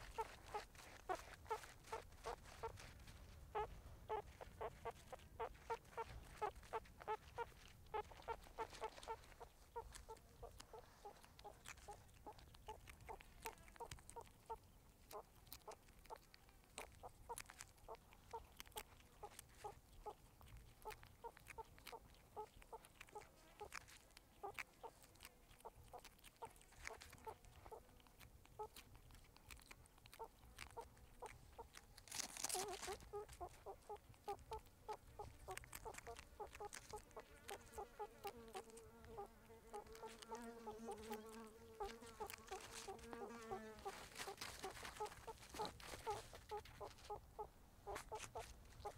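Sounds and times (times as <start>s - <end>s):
meerkats clucking calls: 0.0s - 48.9s
rustling: 0.0s - 48.9s.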